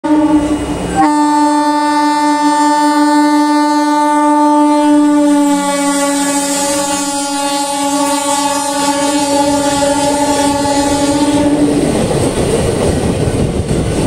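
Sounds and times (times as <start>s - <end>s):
locomotive horn blast: 0.0s - 12.0s
train coaches passing: 0.0s - 14.0s.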